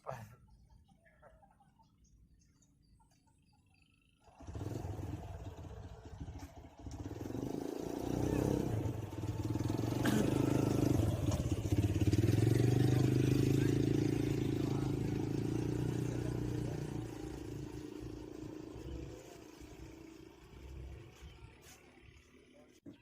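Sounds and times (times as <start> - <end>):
engine running: 3.0 - 23.0.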